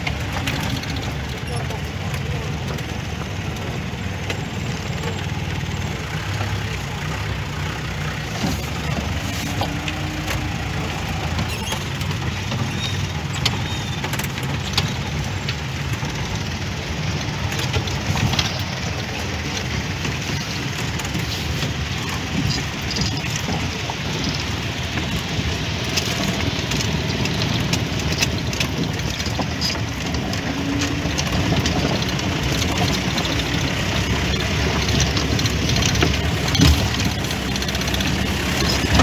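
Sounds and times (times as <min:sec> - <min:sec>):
jeep engine running: 0:00.0 - 0:39.0
knocks and rattles over rough track: 0:00.0 - 0:39.0.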